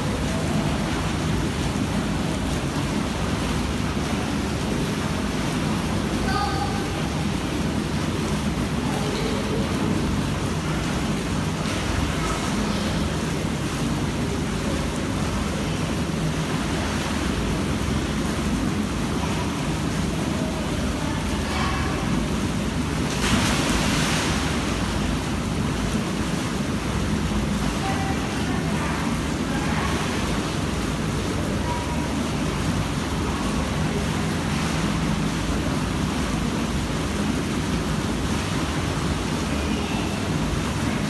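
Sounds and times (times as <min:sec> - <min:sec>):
churning water rushing: 0:00.0 - 0:41.0.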